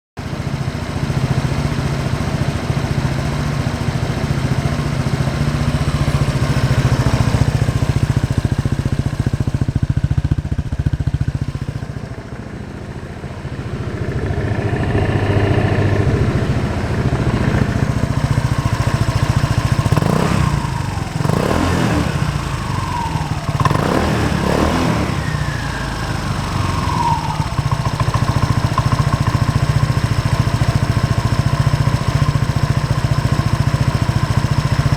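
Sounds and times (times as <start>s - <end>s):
scooter engine idling and revving: 0.2s - 34.9s.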